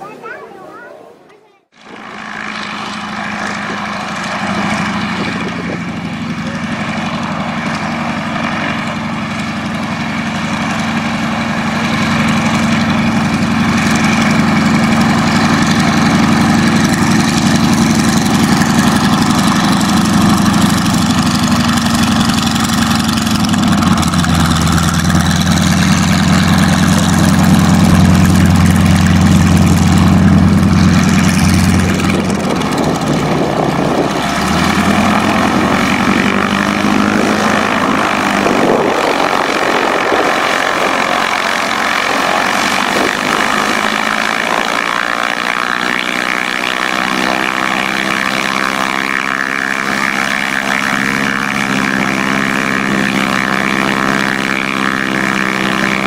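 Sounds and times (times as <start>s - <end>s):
radial aircraft engine and propeller: 0.0s - 56.0s.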